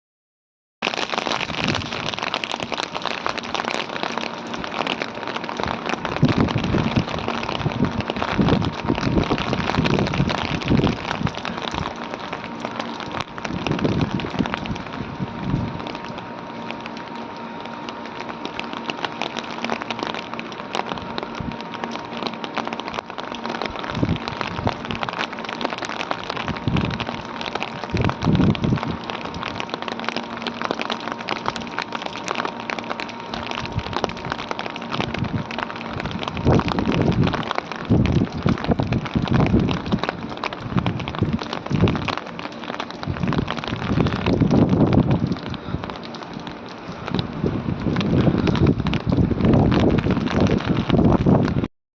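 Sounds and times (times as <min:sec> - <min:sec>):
faint steady hum: 0:00.8 - 0:51.7
heavy rain on hard surfaces: 0:00.8 - 0:51.7
low rumbling: 0:00.8 - 0:51.7.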